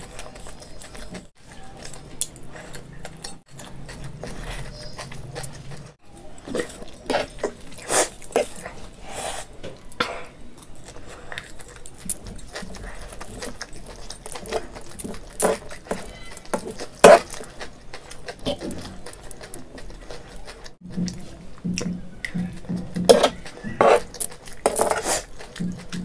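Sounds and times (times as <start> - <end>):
person chewing noodles: 0.0 - 26.0.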